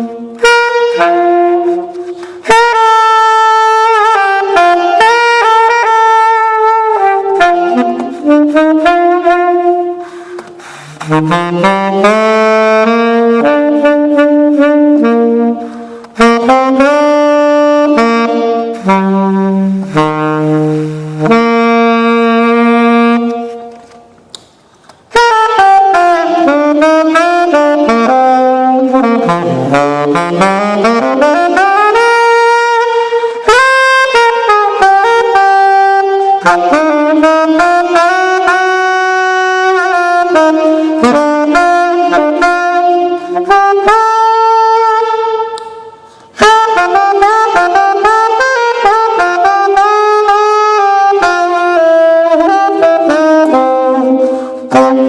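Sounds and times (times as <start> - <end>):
solo saxophone: 0.0 - 55.0.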